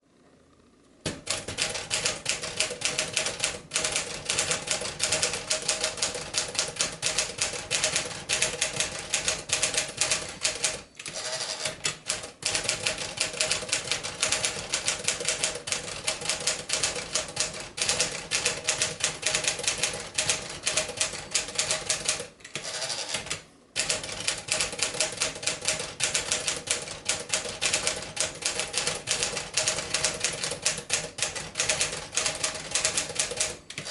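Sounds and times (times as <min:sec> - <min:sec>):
typewriter keystroke clacks: 0:01.1 - 0:33.9.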